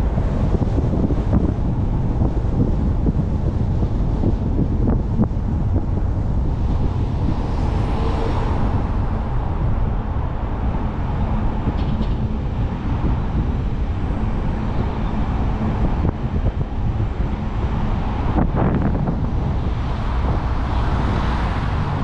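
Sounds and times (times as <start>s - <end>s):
tyre and road noise: 0.0s - 22.0s
wind rumble on microphone: 0.0s - 22.0s.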